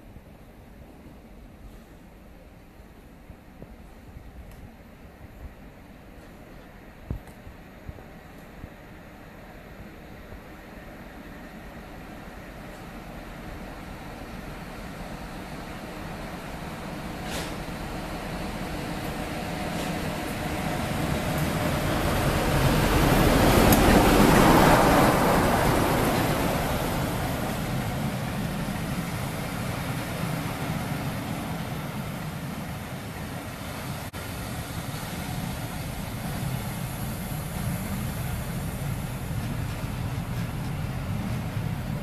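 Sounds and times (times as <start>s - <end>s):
diesel locomotive engine: 0.0s - 42.0s
train wheels rumbling on rail: 0.0s - 42.0s.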